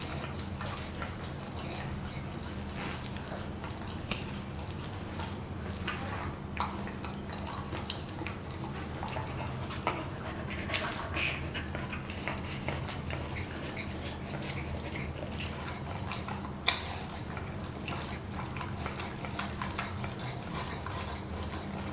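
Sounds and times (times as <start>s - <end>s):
puppy licking and chewing toy: 0.0s - 21.9s.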